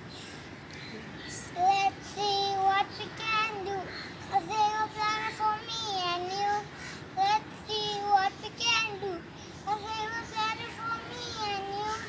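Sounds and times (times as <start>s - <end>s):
child singing: 1.5s - 12.0s.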